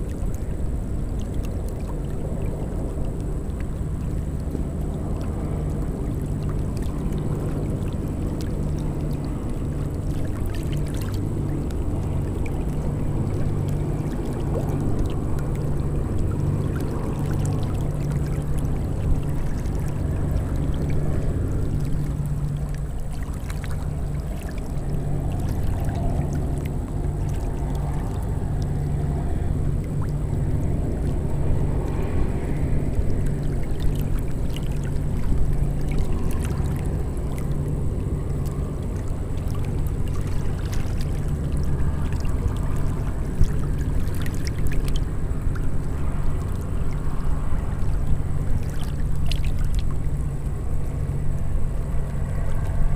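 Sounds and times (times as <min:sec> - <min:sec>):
steady low rumble: 0:00.0 - 0:52.9
waves lapping and splashing: 0:00.0 - 0:52.9.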